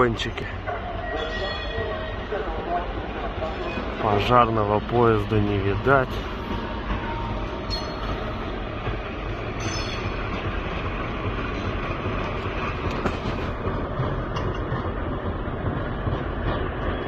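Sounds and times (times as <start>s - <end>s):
freight train wagons rumbling: 0.0s - 17.0s.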